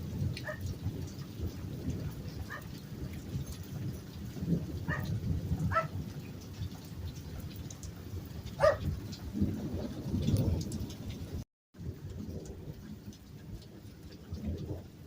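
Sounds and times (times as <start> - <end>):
low rumbling thunder: 0.0 - 15.0
steady rain: 0.0 - 15.0.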